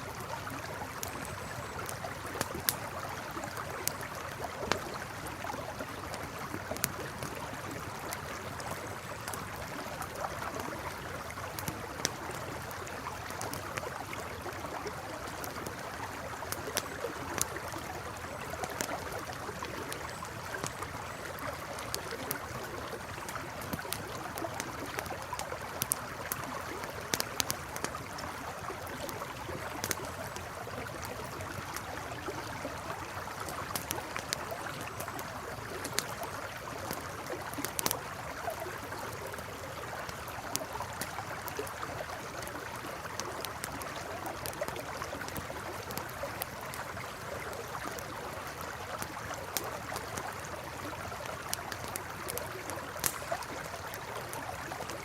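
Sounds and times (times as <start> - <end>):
campfire crackling and popping: 0.0 - 55.0
river water flowing: 0.0 - 55.0.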